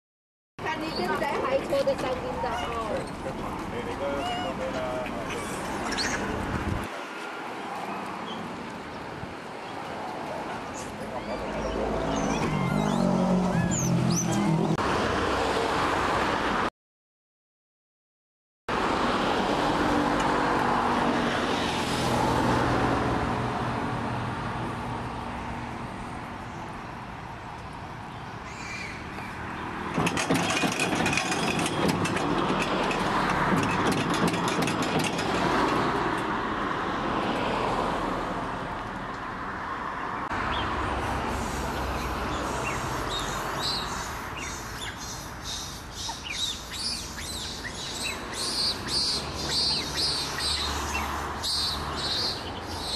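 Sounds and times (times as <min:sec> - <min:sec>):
road vehicles passing: 0:00.6 - 0:16.7, 0:18.7 - 0:52.9.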